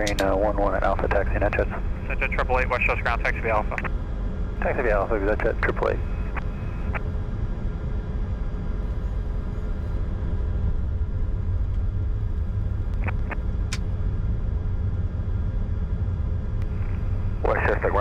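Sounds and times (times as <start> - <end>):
faint steady tones: 0.0 - 18.0
jet engines idling low rumble: 0.0 - 18.0.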